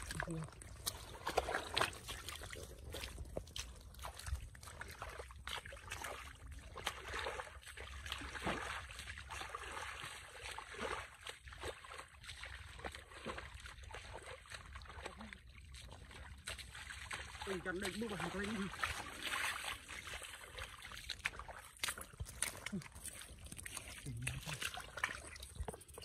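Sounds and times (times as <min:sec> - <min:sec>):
bare feet splashing in mud: 0:00.0 - 0:26.0.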